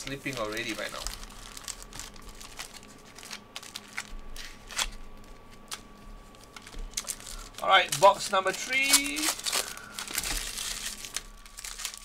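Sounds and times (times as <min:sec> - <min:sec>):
foil wrappers crinkling: 0:00.0 - 0:12.0.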